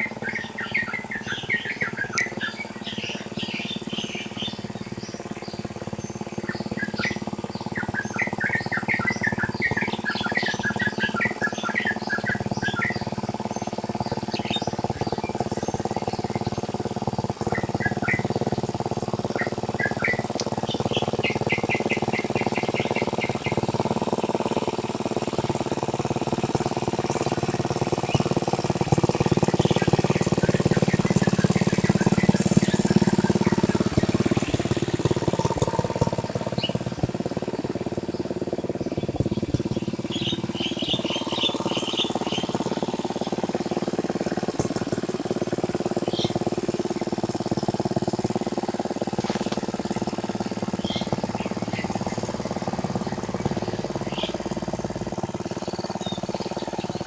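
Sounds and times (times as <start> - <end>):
birds chirping: 0.0 - 25.8, 26.4 - 57.0
tractor engine running: 0.0 - 57.0.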